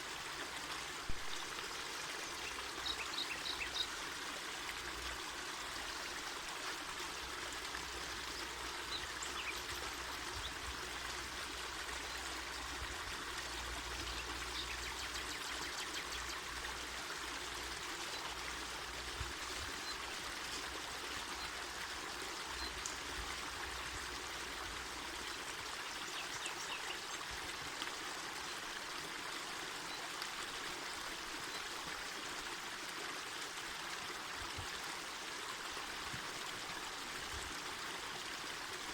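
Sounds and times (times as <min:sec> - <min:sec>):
river water rushing and babbling: 0:00.0 - 0:38.9.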